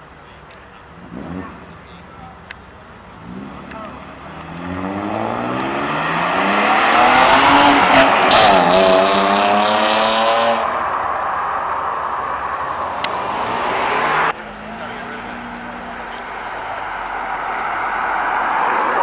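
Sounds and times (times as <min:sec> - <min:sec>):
car engine revving: 0:00.8 - 0:19.0.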